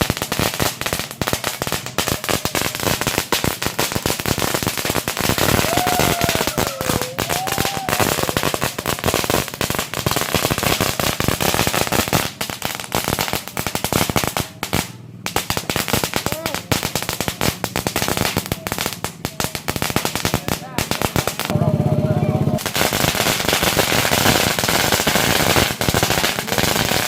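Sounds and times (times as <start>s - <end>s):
firecrackers going off: 0.0s - 27.0s.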